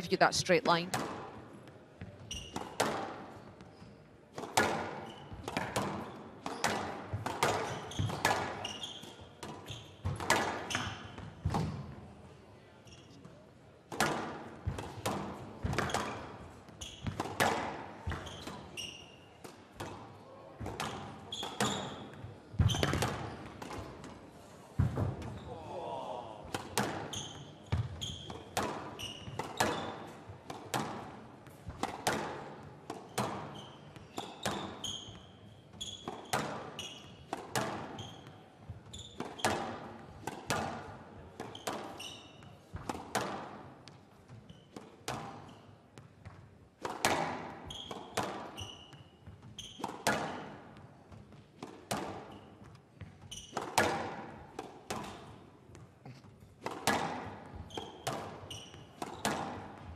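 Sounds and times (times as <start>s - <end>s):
squash ball hitting rackets and walls: 0.9s - 59.9s
shoes squeaking on court floor: 1.7s - 11.9s, 12.8s - 13.5s, 14.6s - 24.2s, 26.7s - 59.9s.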